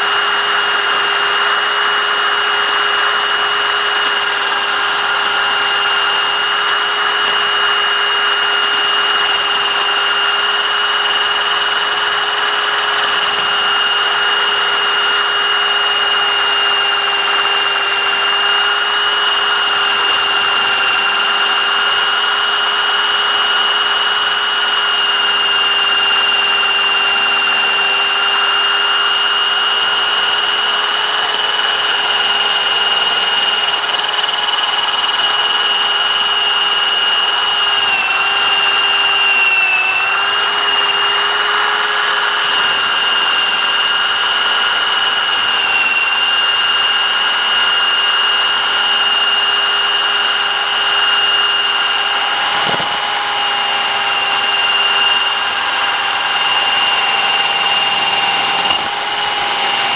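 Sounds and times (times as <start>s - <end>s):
rotary hammer motor whine: 0.0s - 59.9s.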